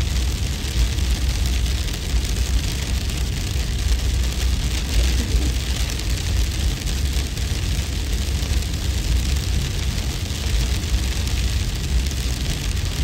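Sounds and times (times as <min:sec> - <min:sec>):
hail pattering: 0:00.0 - 0:13.0.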